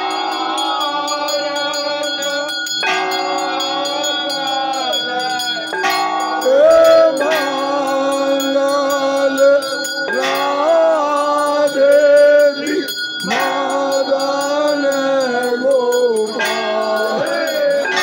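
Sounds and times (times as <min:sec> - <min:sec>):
devotional music: 0:00.0 - 0:18.0
temple bells ringing rapidly: 0:00.0 - 0:18.0.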